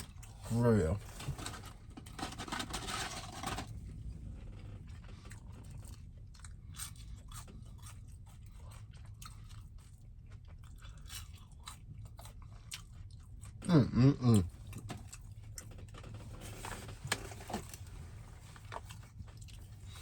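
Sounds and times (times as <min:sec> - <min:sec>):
chewing and crunching food: 0:00.0 - 0:20.0.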